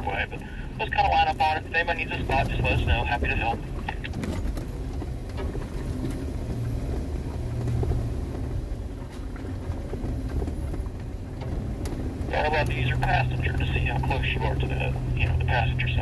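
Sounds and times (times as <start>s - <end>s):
engine and drivetrain rumble: 0.0s - 16.0s.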